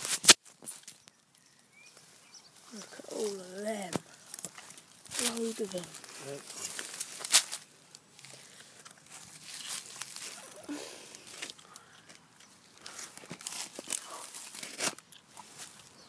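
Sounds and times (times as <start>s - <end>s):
rustling handling noises: 0.0s - 16.0s.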